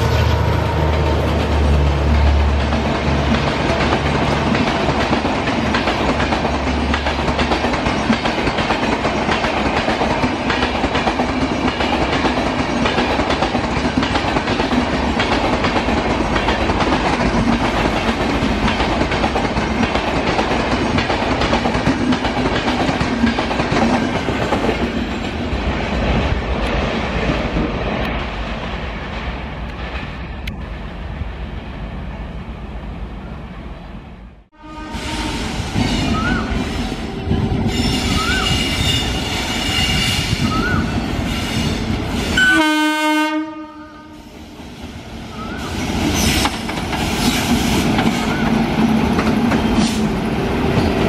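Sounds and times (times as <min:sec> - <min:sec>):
train passing at speed: 0:00.0 - 0:51.0.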